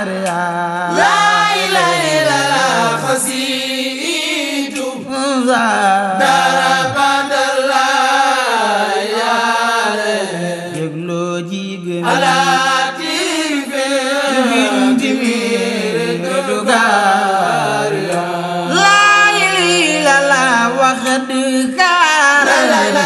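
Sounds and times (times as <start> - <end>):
man chanting devotional poem: 0.0 - 7.4, 9.9 - 23.0.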